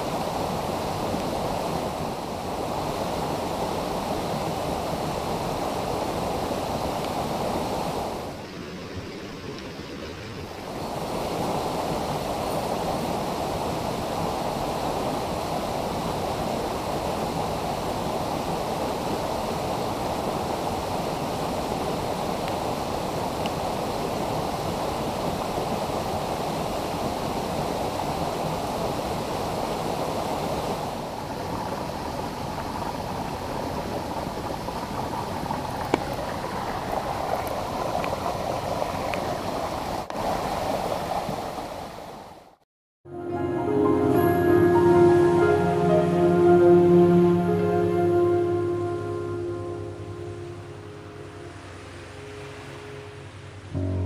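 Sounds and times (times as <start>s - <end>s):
stream rushing over boulders: 0.0s - 42.6s, 43.3s - 54.0s.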